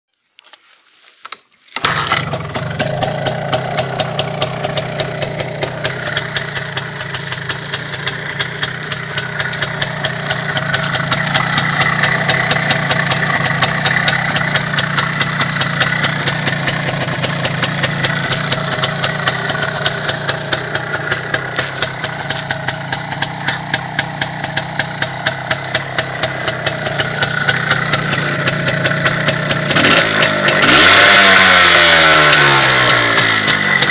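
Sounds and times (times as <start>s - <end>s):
motorcycle engine idling: 1.8s - 33.9s.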